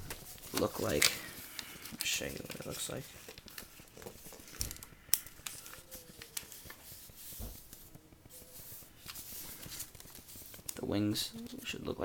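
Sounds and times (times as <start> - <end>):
paper rustling: 0.0 - 11.9.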